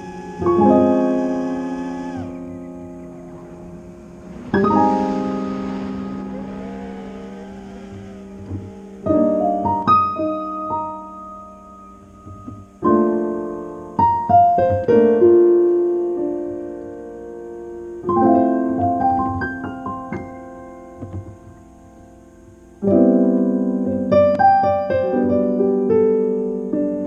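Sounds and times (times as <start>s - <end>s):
piano chords and notes: 0.0s - 27.0s.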